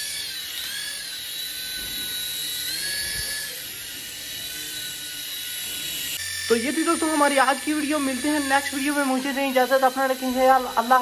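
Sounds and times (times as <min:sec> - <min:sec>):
toy helicopter motors whining: 0:00.0 - 0:11.0.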